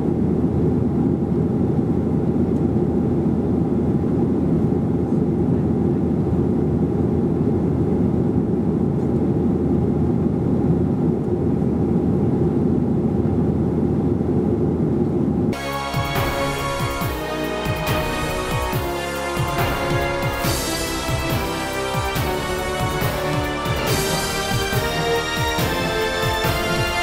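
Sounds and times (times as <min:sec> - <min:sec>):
jet cabin rumble: 0:00.0 - 0:27.0.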